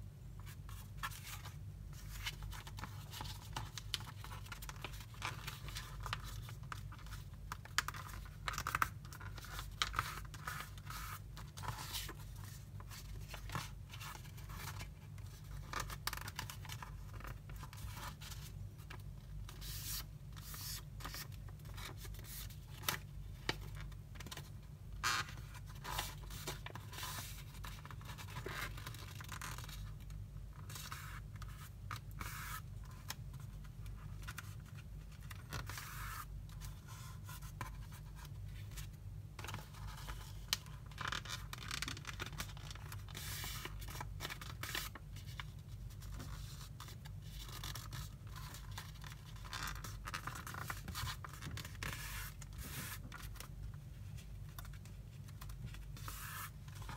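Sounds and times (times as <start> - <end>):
paper rustling and creasing: 0.4 - 56.9.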